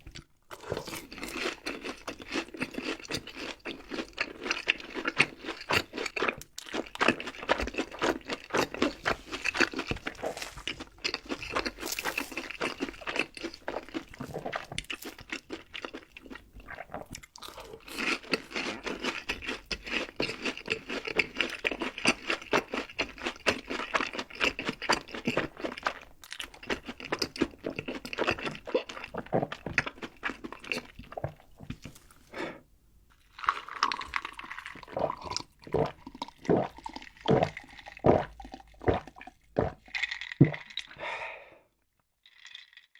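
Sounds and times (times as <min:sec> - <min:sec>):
crunching crispy fried food: 0:00.6 - 0:32.3, 0:33.1 - 0:41.0.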